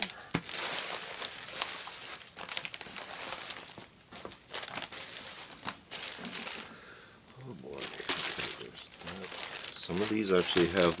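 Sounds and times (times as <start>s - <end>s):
plastic bags crinkling: 0.0s - 6.8s, 7.6s - 11.0s.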